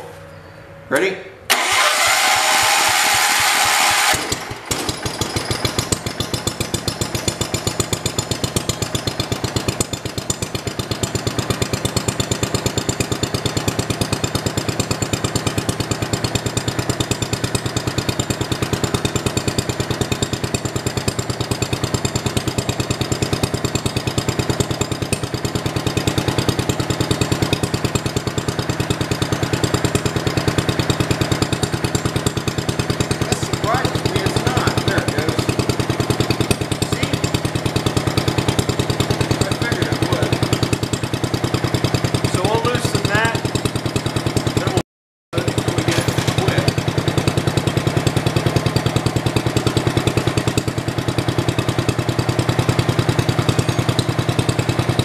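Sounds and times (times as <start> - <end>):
garden tractor engine running: 1.5 - 44.8, 45.4 - 55.0.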